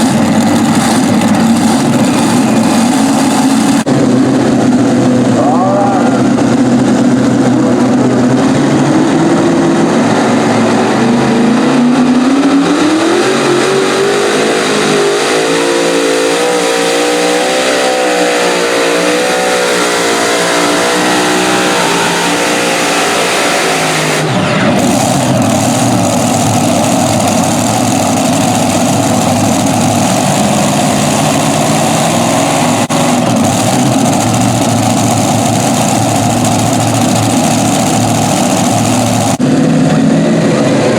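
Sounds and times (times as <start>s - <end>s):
tractor engines revving at full throttle: 0.0s - 40.9s.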